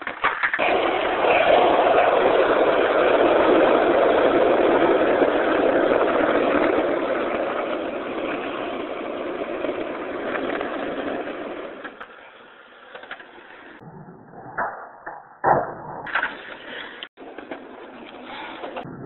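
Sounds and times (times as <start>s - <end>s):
skateboard wheels rolling on asphalt: 0.0s - 19.0s.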